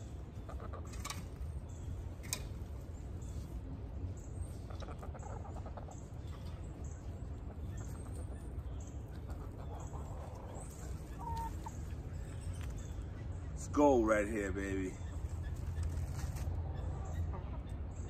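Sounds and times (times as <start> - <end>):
chickens clucking softly: 0.1 - 3.4, 4.3 - 13.3, 15.0 - 18.0.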